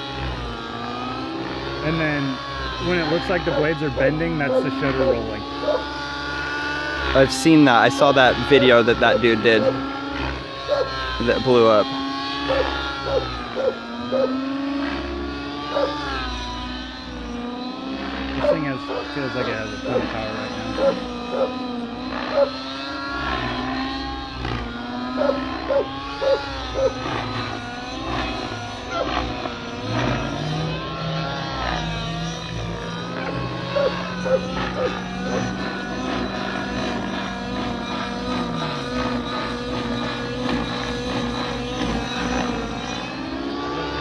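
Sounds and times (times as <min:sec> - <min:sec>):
model helicopter engine whine: 0:00.0 - 0:44.0.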